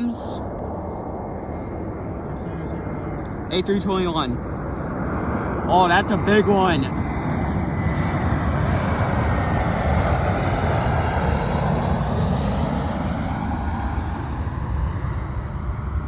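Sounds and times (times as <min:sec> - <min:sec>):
passing airliner jet engines: 0:00.0 - 0:16.0.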